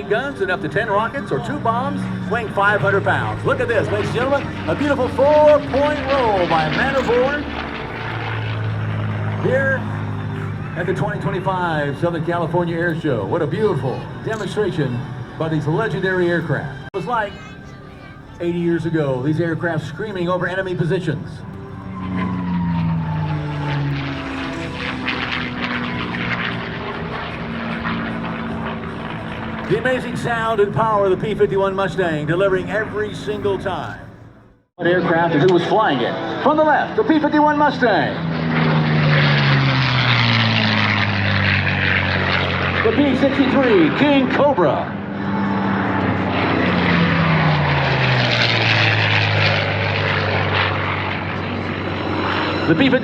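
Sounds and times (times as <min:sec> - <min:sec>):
propeller aircraft engine fly-by: 0:00.0 - 0:53.0.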